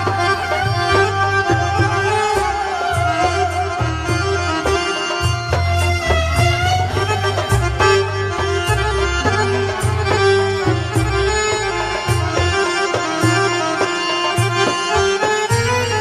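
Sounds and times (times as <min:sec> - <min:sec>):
electronic keyboard music: 0:00.0 - 0:16.0.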